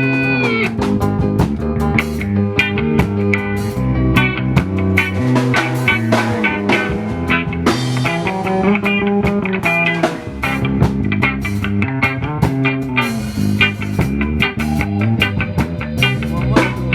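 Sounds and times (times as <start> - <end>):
bass line: 0.0 - 16.9
live band music with guitar: 0.0 - 16.9.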